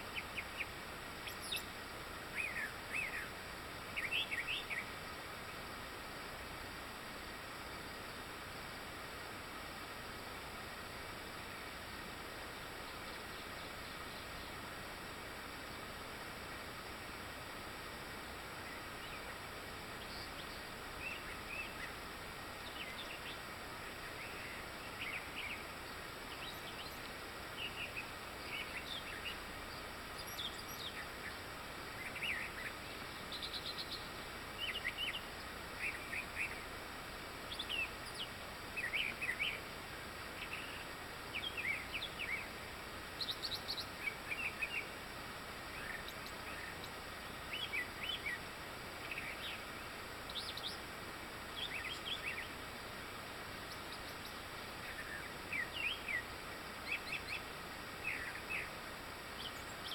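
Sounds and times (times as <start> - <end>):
songbirds singing: 0.0 - 59.9
steady background hiss: 0.0 - 59.9.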